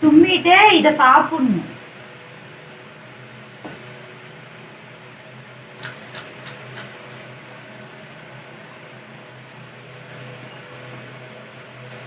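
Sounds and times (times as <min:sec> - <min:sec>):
steady whirring room noise: 0:00.0 - 0:12.0.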